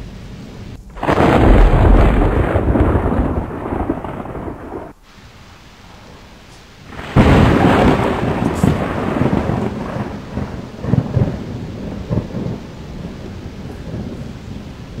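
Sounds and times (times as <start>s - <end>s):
thunderclap with rolling rumble: 0.8s - 5.0s, 5.9s - 15.0s.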